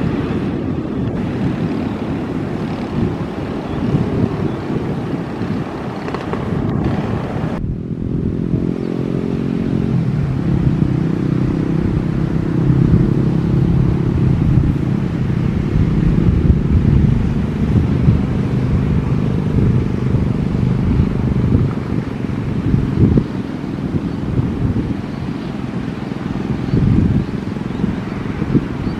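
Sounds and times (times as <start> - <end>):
engine humming: 0.0 - 28.9.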